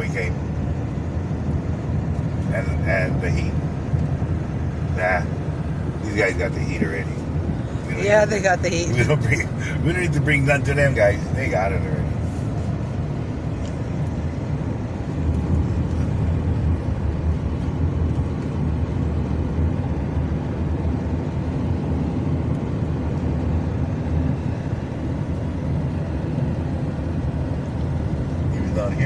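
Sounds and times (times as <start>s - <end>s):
car interior road rumble: 0.0s - 29.0s.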